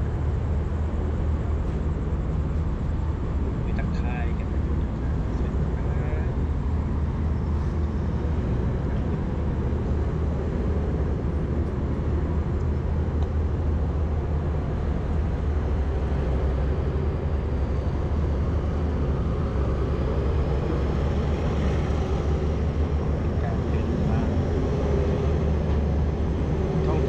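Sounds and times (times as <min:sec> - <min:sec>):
train rumbling: 0:00.0 - 0:27.0.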